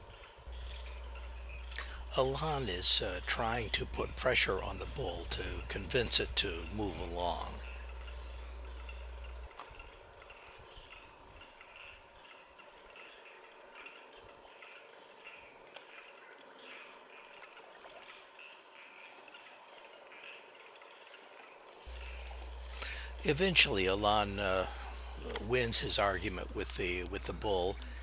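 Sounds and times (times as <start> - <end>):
faint insect chirps: 0.0 - 28.0
insect high-pitched trill: 0.0 - 28.0.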